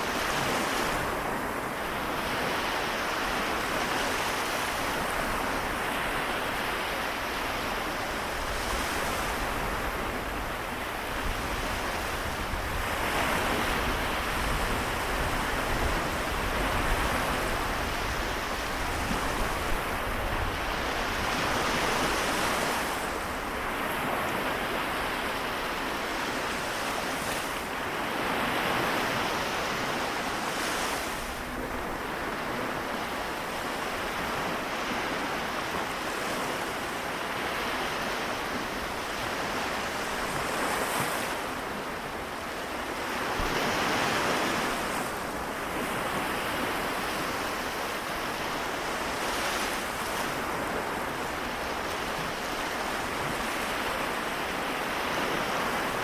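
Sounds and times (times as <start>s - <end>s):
small waves washing onto shore: 0.0s - 56.0s.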